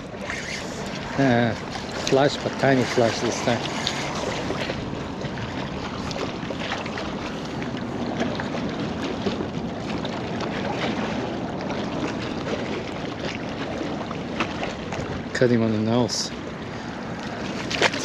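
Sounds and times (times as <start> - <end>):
small waves lapping on rocks: 0.0 - 18.0.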